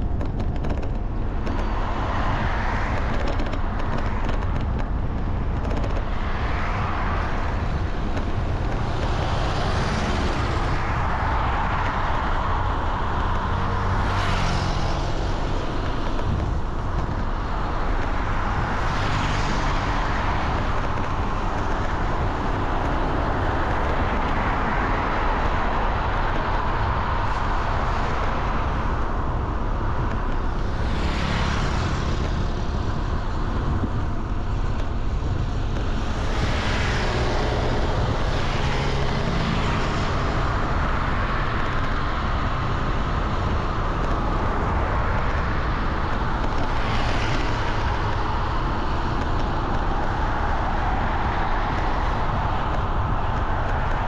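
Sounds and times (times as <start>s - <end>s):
traffic rumble: 0.0s - 54.0s
vehicles passing: 0.0s - 54.0s.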